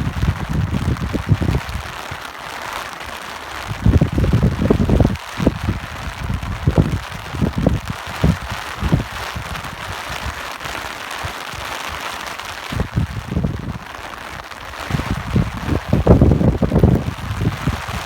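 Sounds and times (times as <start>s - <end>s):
wind gusting: 0.0s - 2.2s, 3.6s - 18.0s
rain hiss: 0.0s - 18.0s.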